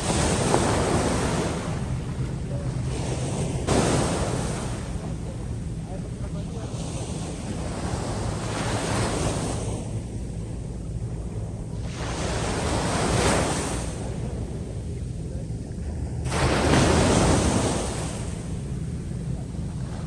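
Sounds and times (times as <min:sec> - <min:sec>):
sea waves breaking on beach: 0:00.0 - 0:20.0
wind rumble on microphone: 0:00.0 - 0:20.0.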